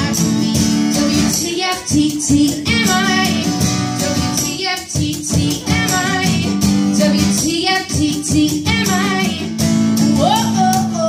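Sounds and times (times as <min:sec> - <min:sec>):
acoustic guitar strumming: 0:00.0 - 0:11.0
woman singing: 0:00.0 - 0:11.0.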